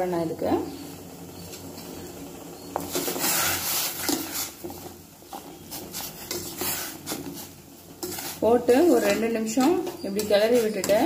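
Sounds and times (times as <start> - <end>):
water boiling and bubbling: 0.0 - 11.0
spoon scraping metal pot: 0.7 - 11.0.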